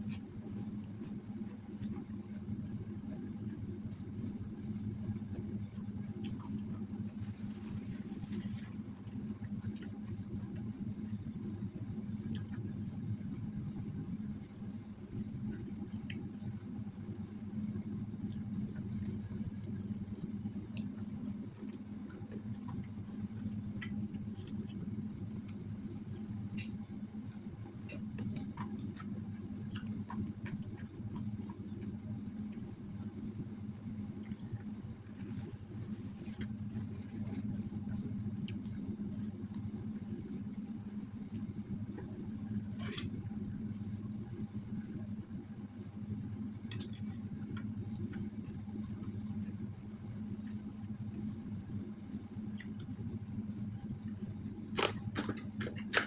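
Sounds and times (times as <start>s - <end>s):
chewing with small clicks: 0.0s - 43.6s, 45.7s - 56.0s
steady low hum: 0.0s - 56.0s.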